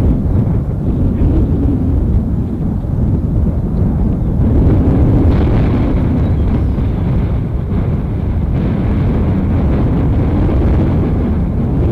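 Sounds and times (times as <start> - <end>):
jet engines rumbling overhead: 0.0 - 11.9.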